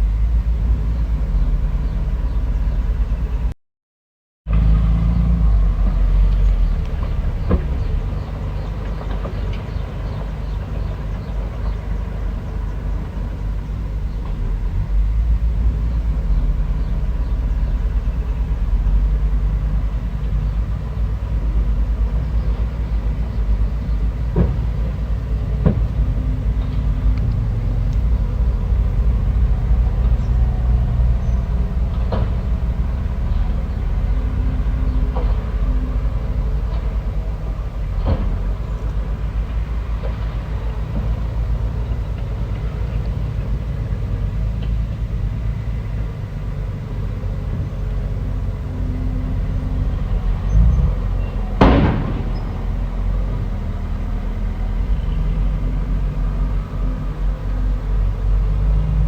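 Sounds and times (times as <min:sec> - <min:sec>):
bulldozer diesel engine running: 0:00.0 - 0:03.6, 0:04.5 - 0:59.0.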